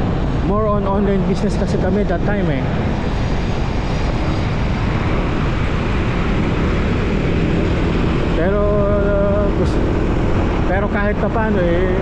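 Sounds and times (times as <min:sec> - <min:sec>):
motor scooter engine and road noise: 0:00.0 - 0:12.0
wind rushing over microphone: 0:00.0 - 0:12.0.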